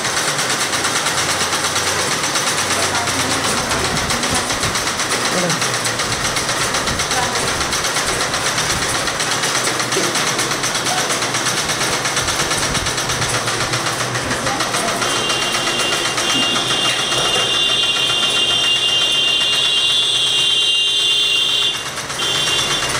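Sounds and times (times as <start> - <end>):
sewing machines clattering: 0.0 - 22.9.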